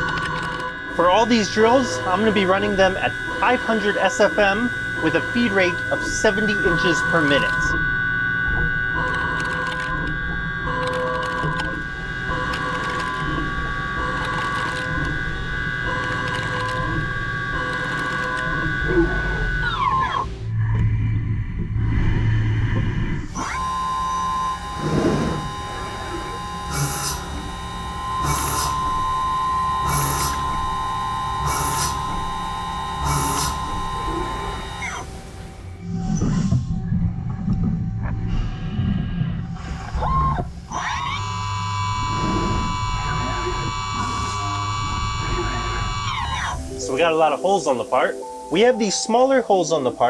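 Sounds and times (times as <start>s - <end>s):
drill cutting metal: 0.0s - 20.6s, 22.8s - 36.4s, 39.6s - 47.9s
machine spindle whine: 0.0s - 50.0s.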